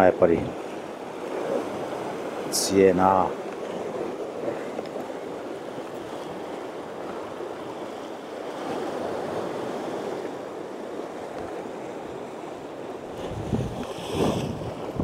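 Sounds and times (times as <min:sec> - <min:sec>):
surf washing against rocks: 0:00.0 - 0:15.0.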